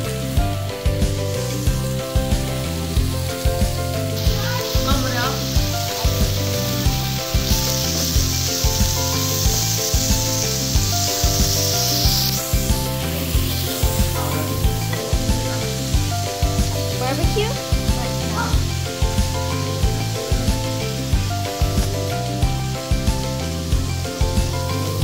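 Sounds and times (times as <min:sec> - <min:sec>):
meat and mushrooms sizzling on grill: 0:00.0 - 0:25.0.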